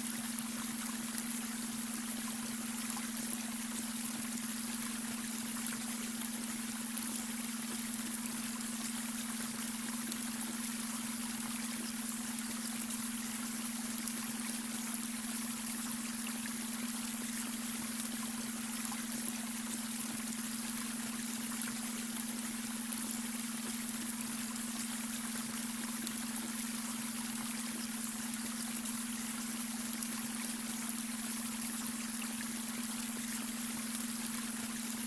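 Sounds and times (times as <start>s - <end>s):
brook water trickling over stones: 0.0s - 35.0s.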